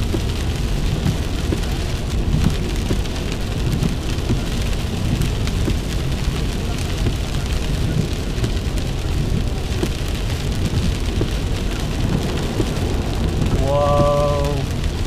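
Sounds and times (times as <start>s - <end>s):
heavy rain drumming on car: 0.0s - 15.0s
road and engine rumble: 0.0s - 15.0s.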